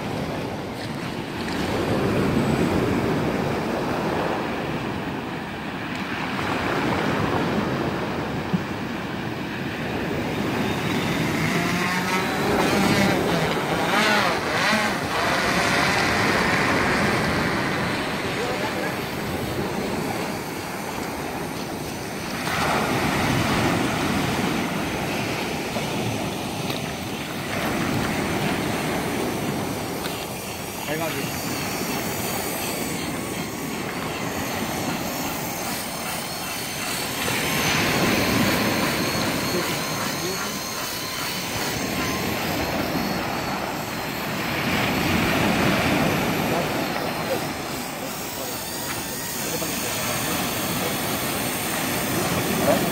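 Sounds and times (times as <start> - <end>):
drone propellers whining: 0.0 - 52.9
surf on pebble beach: 0.0 - 52.9.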